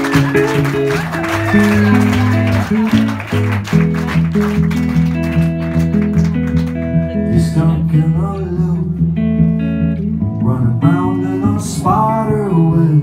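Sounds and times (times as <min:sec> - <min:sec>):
bass notes: 0:00.0 - 0:13.0
electric guitar melody: 0:00.0 - 0:13.0.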